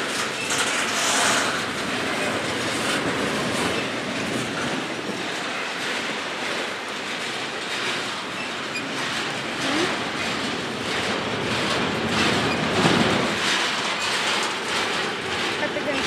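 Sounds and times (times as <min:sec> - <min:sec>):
train wheels rumbling on rail: 0:00.0 - 0:16.0
wheels clicking over rail joints: 0:00.0 - 0:16.0.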